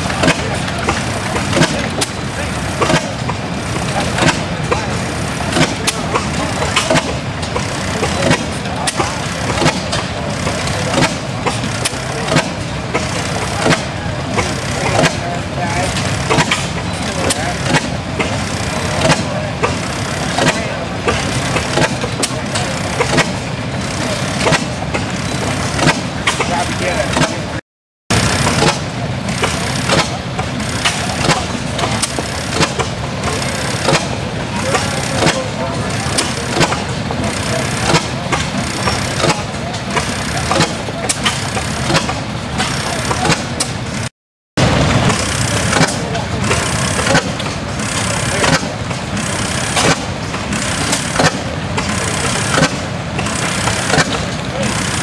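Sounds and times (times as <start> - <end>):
engine exhaust bangs: 0.0 - 55.0
steady background noise: 0.0 - 55.0.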